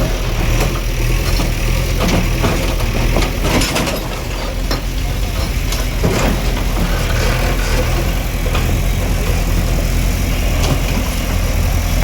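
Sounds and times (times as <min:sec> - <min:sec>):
bulldozer engine running: 0:00.0 - 0:12.0.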